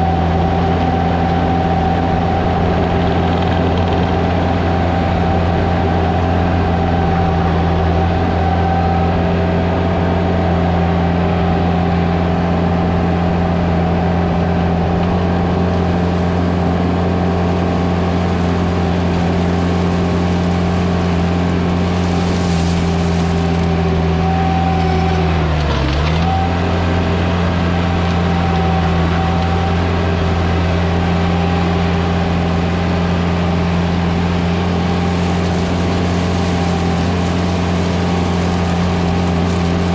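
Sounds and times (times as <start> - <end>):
skid loader engine running: 0.0 - 39.9.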